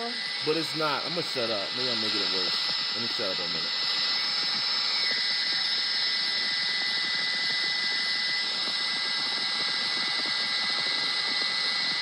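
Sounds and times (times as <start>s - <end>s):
helicopter turbine whine and rotor: 0.0s - 12.0s.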